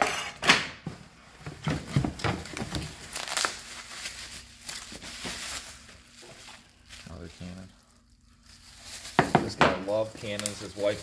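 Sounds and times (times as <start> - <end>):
bubble wrap crinkling: 2.1 - 11.0.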